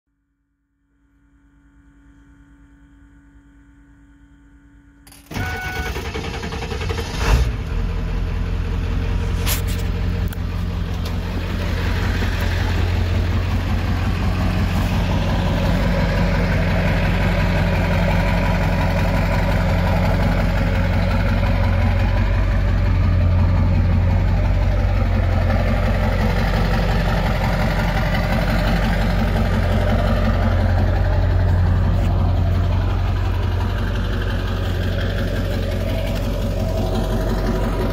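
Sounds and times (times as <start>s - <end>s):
diesel engine starting and idling: 5.1s - 37.9s.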